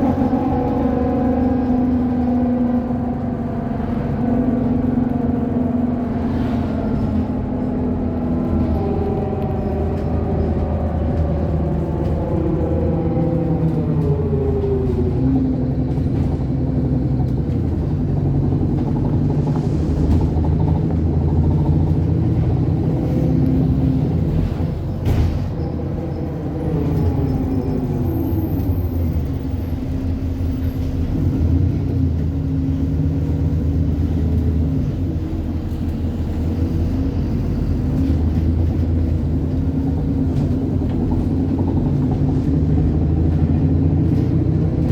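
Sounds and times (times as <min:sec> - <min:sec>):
bus engine running: 0:00.0 - 0:44.9.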